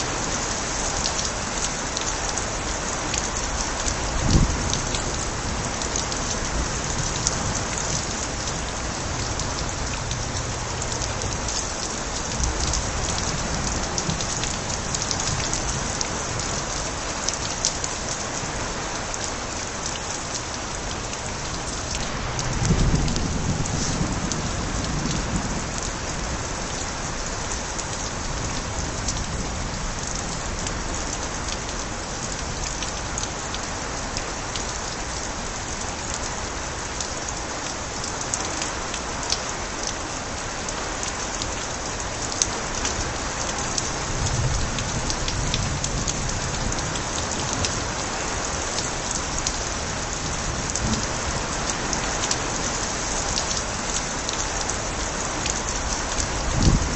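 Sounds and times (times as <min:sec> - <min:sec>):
steady rain: 0:00.0 - 0:56.9
water spilling from gutters: 0:00.0 - 0:56.9.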